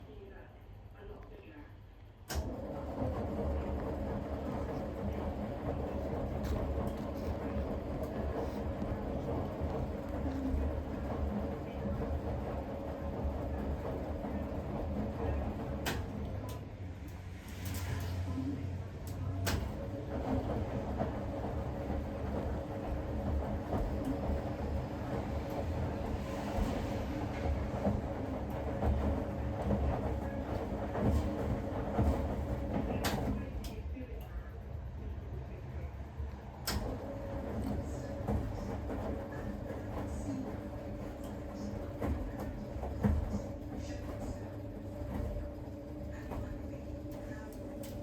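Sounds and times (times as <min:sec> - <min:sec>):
washing machine rumbling: 0:02.3 - 0:48.0.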